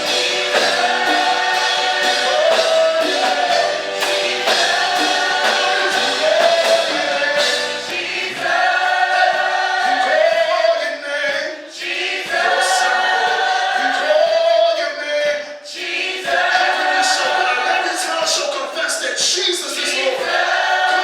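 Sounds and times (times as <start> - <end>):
choir singing gospel: 0.0 - 21.0.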